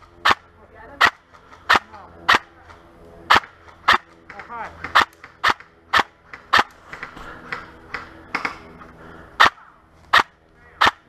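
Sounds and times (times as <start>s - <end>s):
airsoft rifle shots: 0.2s - 8.7s, 9.4s - 11.0s.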